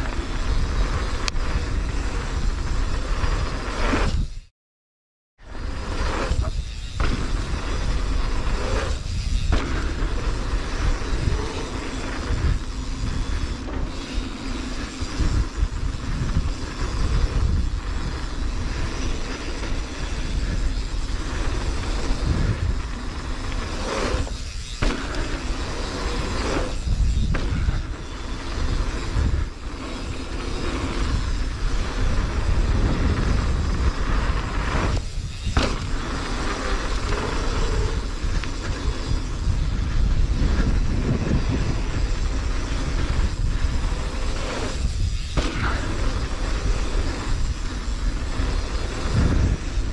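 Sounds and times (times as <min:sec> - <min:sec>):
mountain bike rumbling and rattling: 0:00.0 - 0:04.5, 0:05.4 - 0:49.9
wind on microphone: 0:05.4 - 0:49.9.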